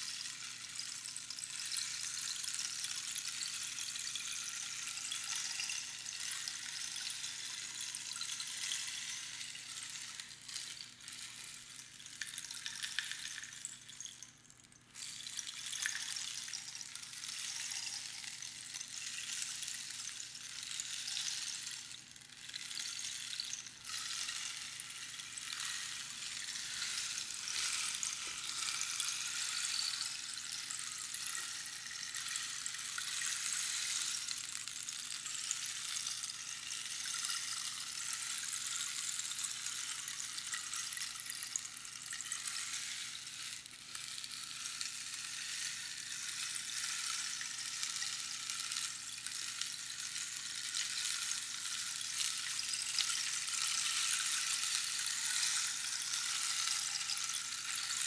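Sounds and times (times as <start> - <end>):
rainstick pebbles trickling: 0.0 - 58.0.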